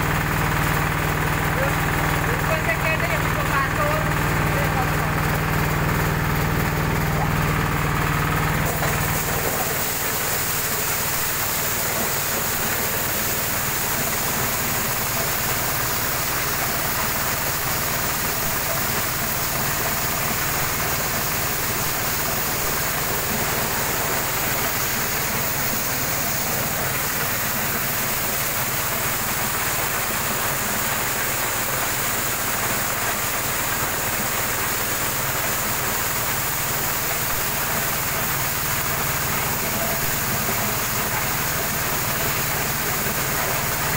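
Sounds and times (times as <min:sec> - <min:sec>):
corn sheller rushing: 0:00.0 - 0:43.9
small engine running: 0:00.0 - 0:43.9.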